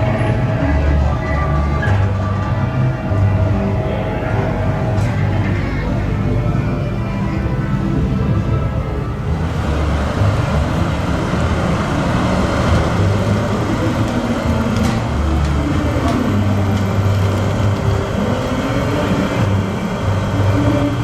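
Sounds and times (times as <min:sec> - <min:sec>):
fire engine engine running: 0:00.0 - 0:21.0
road traffic noise: 0:00.0 - 0:21.0.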